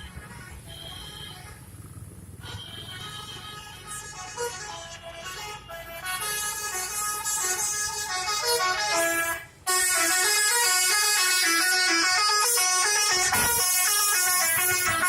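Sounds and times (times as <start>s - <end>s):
multi-tone musical air horn: 2.4s - 15.0s.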